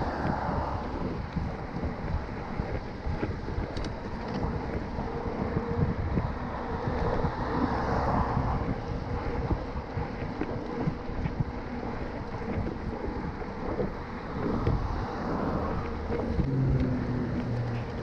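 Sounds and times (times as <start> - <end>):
bike tyres rumbling over paving: 0.0 - 18.0
wind buffeting microphone: 0.0 - 18.0.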